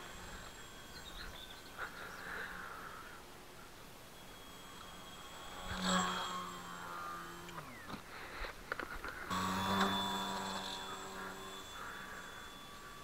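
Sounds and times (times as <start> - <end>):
electric motor propeller whine: 0.0 - 13.0.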